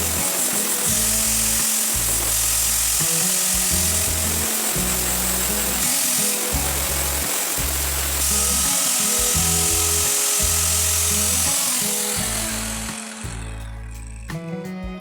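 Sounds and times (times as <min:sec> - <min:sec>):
background music with bass line: 0:00.0 - 0:00.3, 0:00.9 - 0:05.9, 0:06.5 - 0:15.0
angle grinder grinding: 0:00.0 - 0:14.5.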